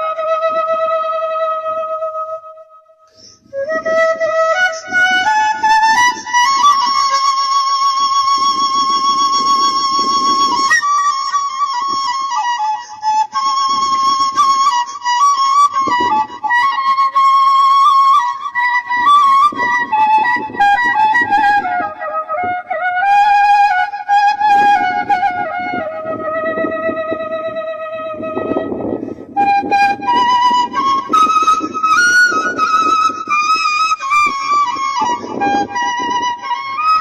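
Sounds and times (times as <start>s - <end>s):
solo flute melody: 0.0s - 37.0s.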